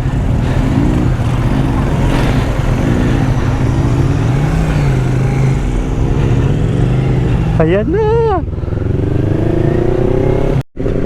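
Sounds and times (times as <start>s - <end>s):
motorcycle engine revving: 0.0s - 11.0s
road noise: 0.0s - 11.0s.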